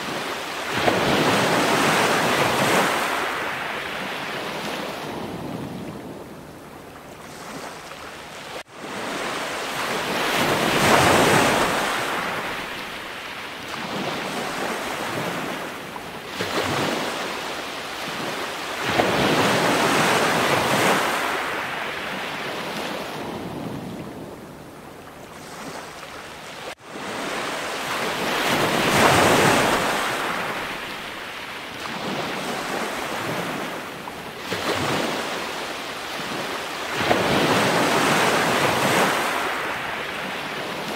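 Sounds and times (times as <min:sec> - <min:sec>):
ocean waves washing: 0:00.0 - 0:40.9.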